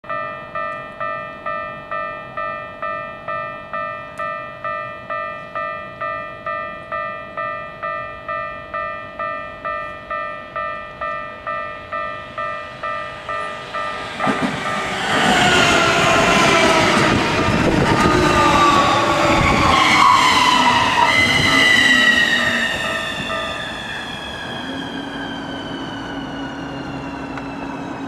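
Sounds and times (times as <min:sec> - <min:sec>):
level crossing warning bell ringing: 0:00.0 - 0:27.0.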